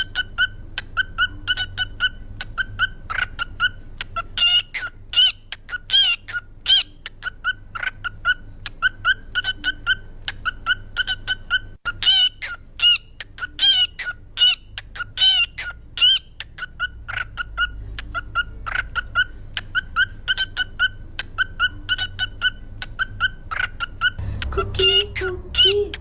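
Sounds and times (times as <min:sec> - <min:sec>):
parrot warbling calls: 0:00.0 - 0:24.2, 0:24.8 - 0:26.0
parrot chirping: 0:00.0 - 0:26.0.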